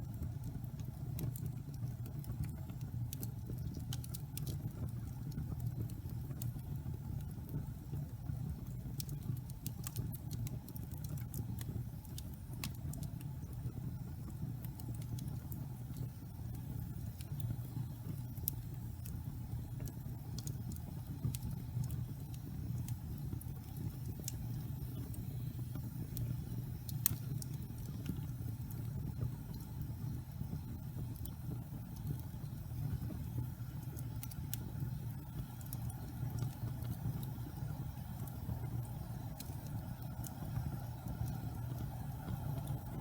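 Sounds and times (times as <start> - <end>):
fire crackles and pops: 0.0 - 43.0
fire rumbling: 0.0 - 43.0.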